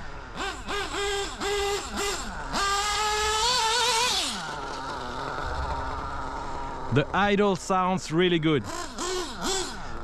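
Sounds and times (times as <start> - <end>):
nitro engine revving and idling: 0.0 - 10.0.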